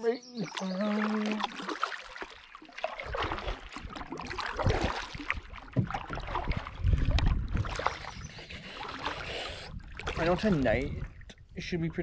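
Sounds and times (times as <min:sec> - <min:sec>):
paddle splashing in water: 0:00.4 - 0:11.4.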